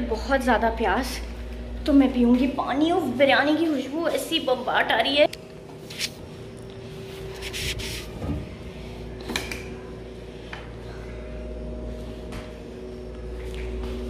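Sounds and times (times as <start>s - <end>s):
refrigerator hum: 0.0s - 14.0s.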